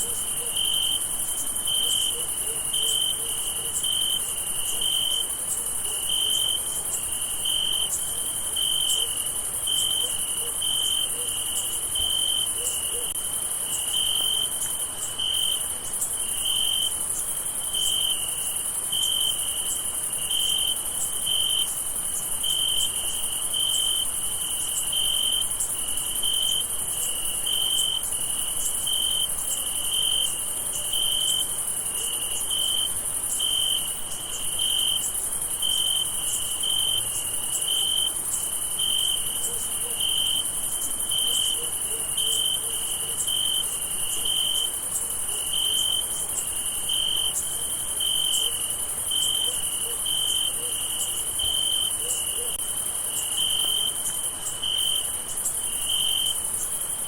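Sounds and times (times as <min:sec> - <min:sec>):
cricket chirping: 0:00.0 - 0:57.0
insects trilling: 0:00.0 - 0:57.0.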